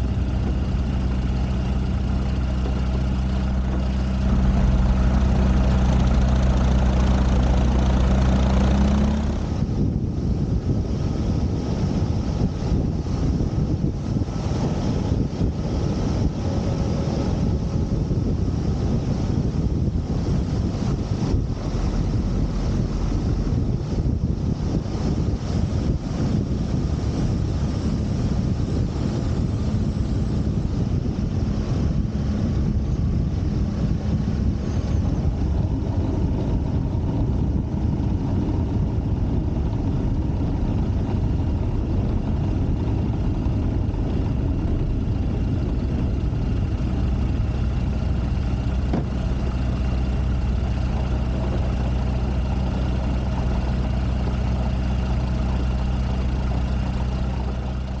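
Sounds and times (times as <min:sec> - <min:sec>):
ground rumble: 0:00.0 - 0:58.0
light aircraft engine idling: 0:00.0 - 0:58.0
wind: 0:00.0 - 0:58.0.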